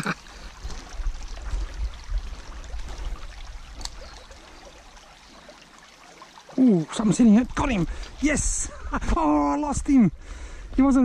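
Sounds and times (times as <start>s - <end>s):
creek trickling over rocks: 0.0s - 11.0s.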